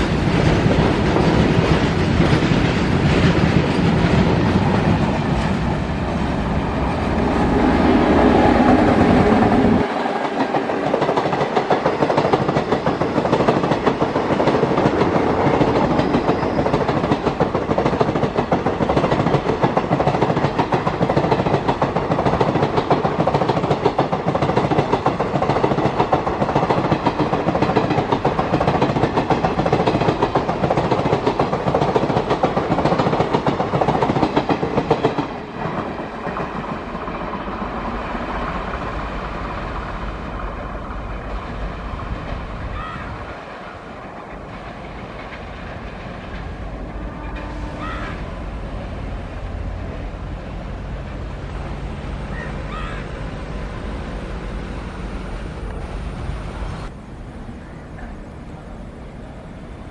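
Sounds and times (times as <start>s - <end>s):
train wheels clattering over rails: 0.0s - 50.0s
freight train rumbling past: 0.0s - 59.9s.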